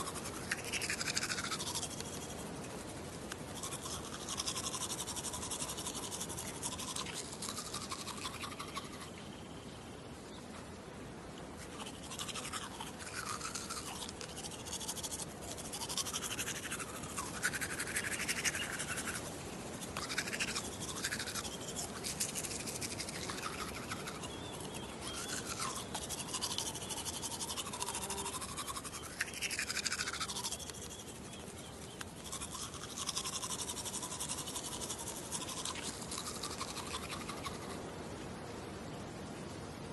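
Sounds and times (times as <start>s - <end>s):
toothbrush scrubbing teeth: 0.0s - 9.3s, 11.6s - 37.8s.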